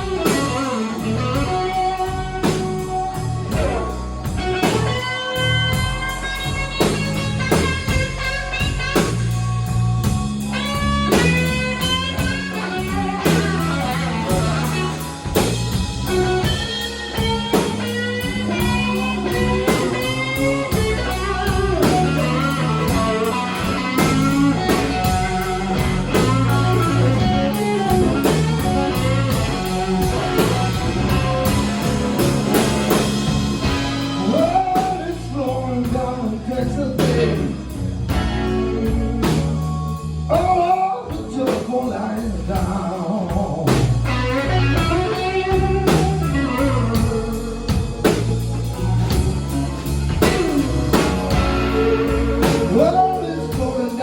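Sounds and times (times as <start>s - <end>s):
bass guitar: 0.0s - 54.0s
drum kit: 0.0s - 54.0s
electric lead guitar: 0.0s - 54.0s.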